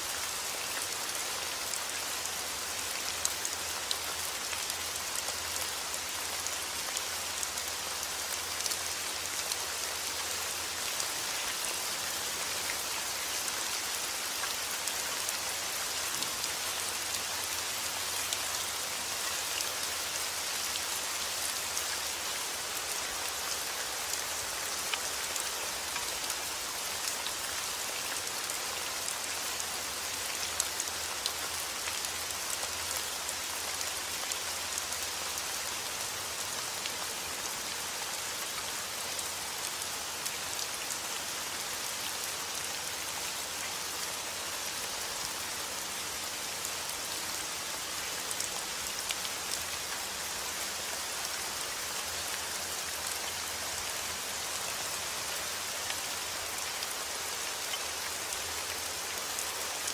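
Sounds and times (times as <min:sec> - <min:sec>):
heavy rain falling: 0:00.1 - 0:59.9.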